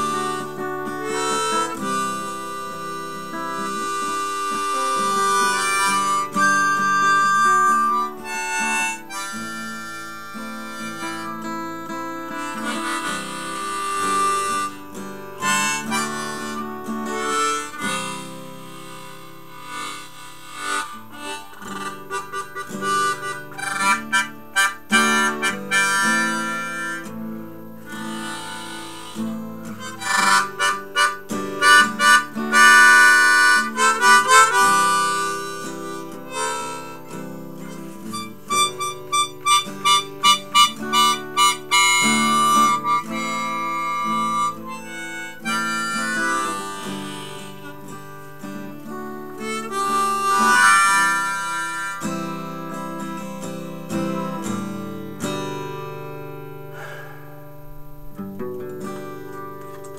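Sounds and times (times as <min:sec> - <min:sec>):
harmonica playing: 0:00.0 - 0:59.9
strummed acoustic guitar: 0:00.0 - 0:59.9.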